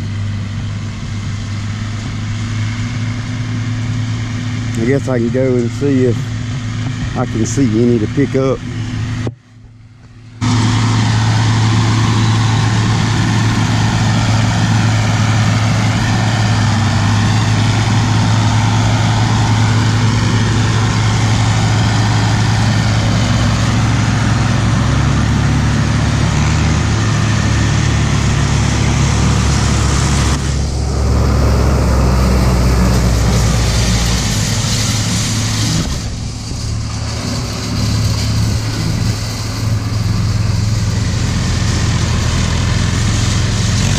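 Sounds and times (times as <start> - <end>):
vehicle engine humming: 0.0 - 43.9.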